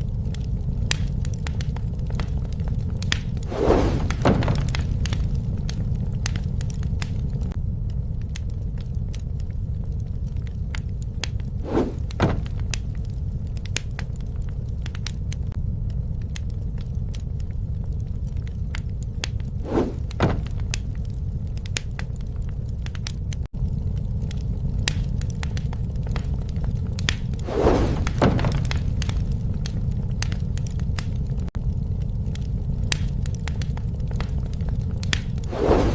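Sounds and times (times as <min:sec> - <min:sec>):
loud pops from fire: 0:00.0 - 0:35.9
wood fire crackling: 0:00.0 - 0:35.9.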